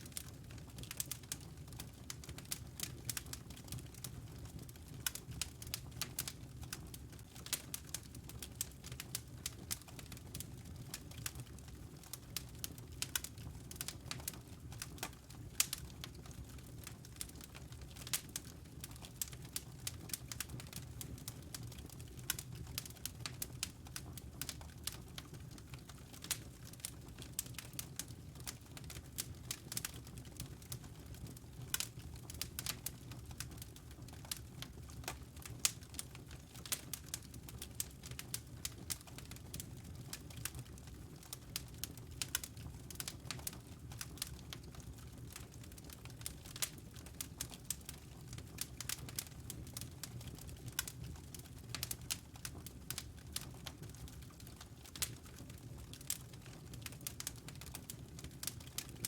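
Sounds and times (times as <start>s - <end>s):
low rumble of burning logs: 0.0s - 59.0s
wood fire crackling and popping: 0.0s - 59.0s.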